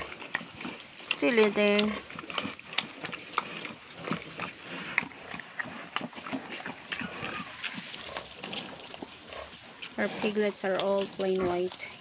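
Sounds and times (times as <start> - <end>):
piglets rooting in feed: 0.0 - 12.0
pigs grunting softly: 0.0 - 12.0.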